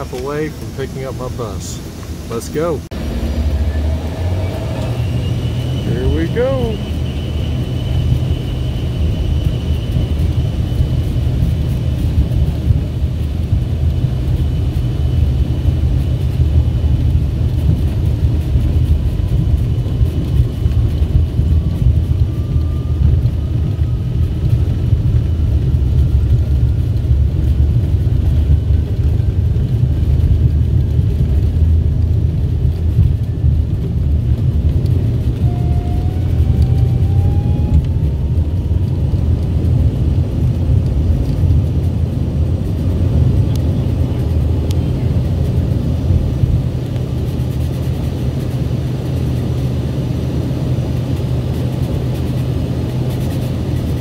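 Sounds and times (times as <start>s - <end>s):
deep rumble of jet engines: 0.0s - 54.0s
faint engine whine rising: 0.0s - 54.0s.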